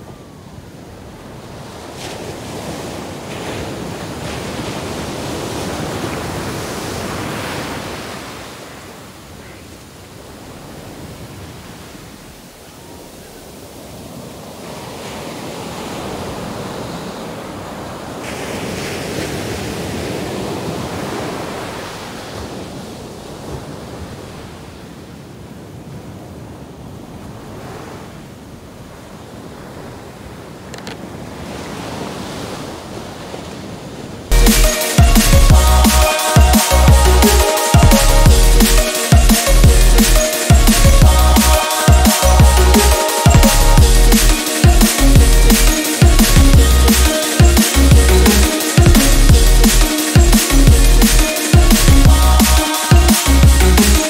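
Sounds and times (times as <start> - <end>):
surf breaking on a beach: 0.0 - 54.0.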